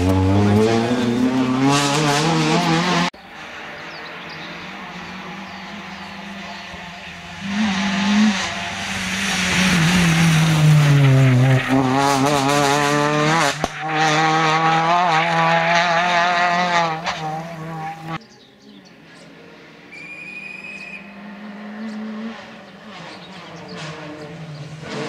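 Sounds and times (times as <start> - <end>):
rally car engine revving: 0.0 - 18.2, 20.7 - 25.0.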